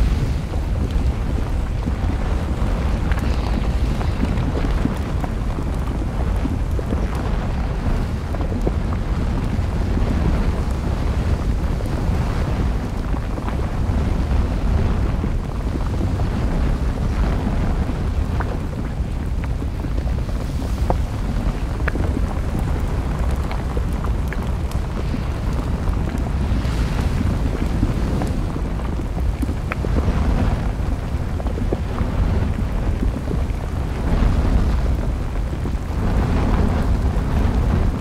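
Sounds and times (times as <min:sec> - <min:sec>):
lava crackles and pops: 0:00.0 - 0:38.0
low volcanic rumble: 0:00.0 - 0:38.0.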